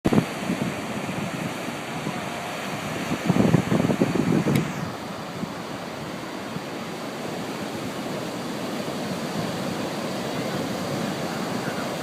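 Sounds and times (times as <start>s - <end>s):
ocean surf washing on shore: 0.1s - 12.0s.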